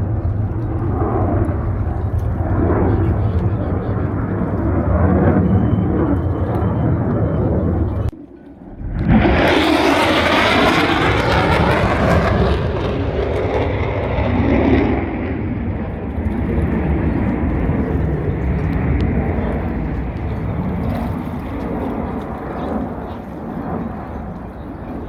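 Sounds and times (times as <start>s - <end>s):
jet flying past: 0.0s - 25.0s.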